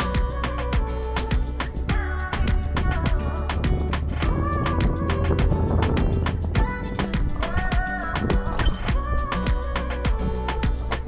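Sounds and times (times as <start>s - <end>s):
fast beat music with bass: 0.0s - 11.0s.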